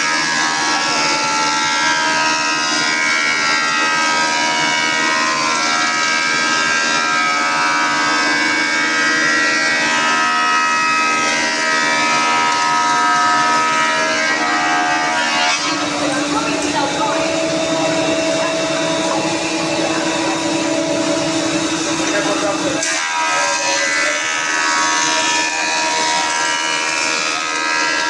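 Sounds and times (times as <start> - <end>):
thickness planer whining: 0.0 - 28.0.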